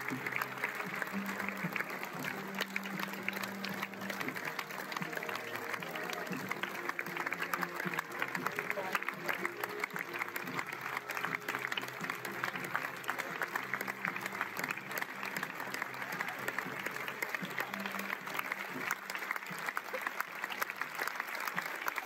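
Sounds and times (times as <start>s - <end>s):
audience applauding: 0.0s - 22.0s
music playing: 0.0s - 22.0s.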